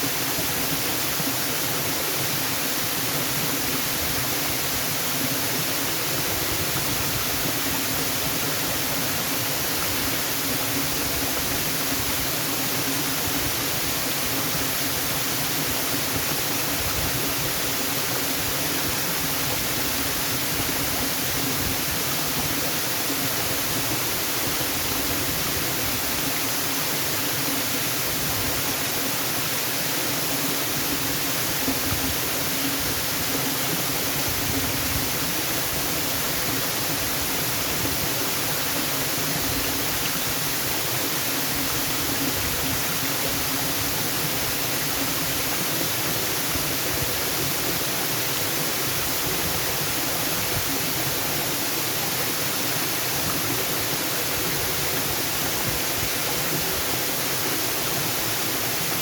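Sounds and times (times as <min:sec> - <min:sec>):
waterfall hissing: 0:00.0 - 0:59.0.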